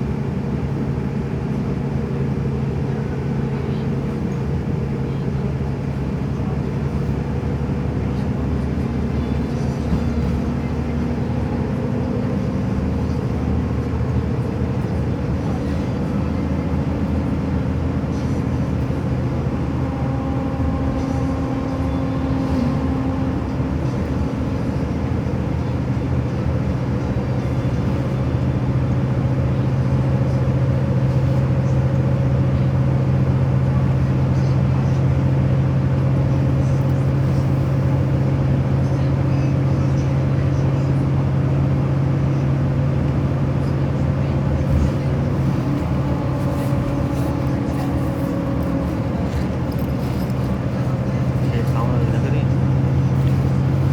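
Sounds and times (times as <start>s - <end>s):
vehicle engine drone: 0.0s - 53.9s.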